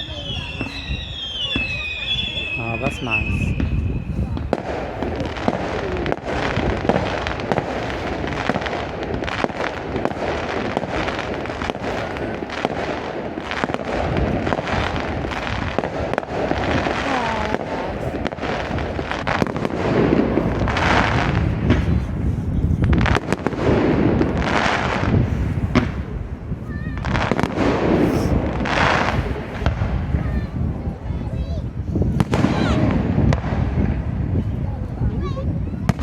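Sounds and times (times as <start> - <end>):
fireworks banging and crackling: 0.0 - 36.0.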